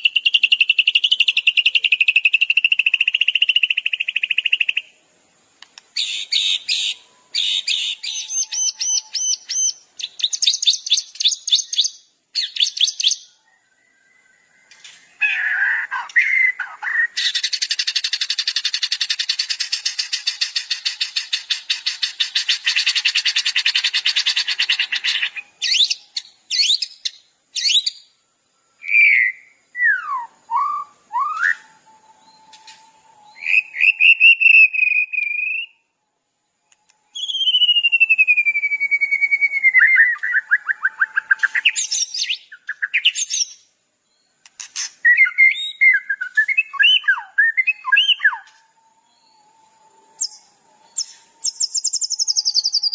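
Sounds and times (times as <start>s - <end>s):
songbird trilling and whistling: 0.0s - 5.0s, 5.8s - 28.2s, 28.8s - 35.9s, 36.7s - 52.9s.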